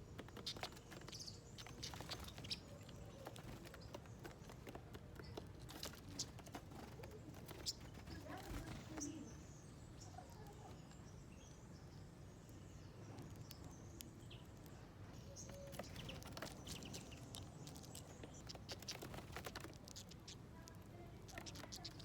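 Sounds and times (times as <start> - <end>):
birds pecking at seeds: 0.0 - 22.0
outdoor background noise: 0.0 - 22.0.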